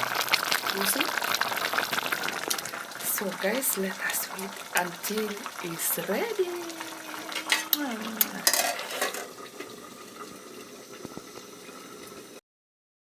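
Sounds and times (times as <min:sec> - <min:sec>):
pot boiling and bubbling: 0:00.0 - 0:12.4.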